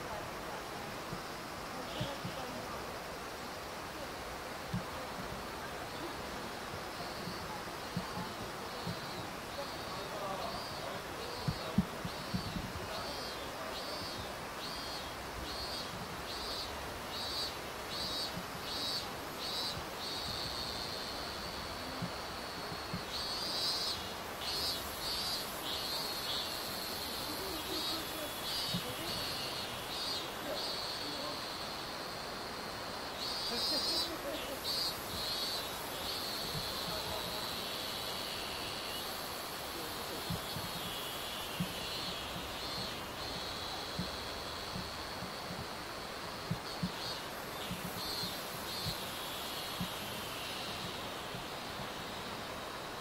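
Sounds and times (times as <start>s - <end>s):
broad hiss: 0.0s - 53.0s
high-pitched insect buzzing: 6.8s - 53.0s.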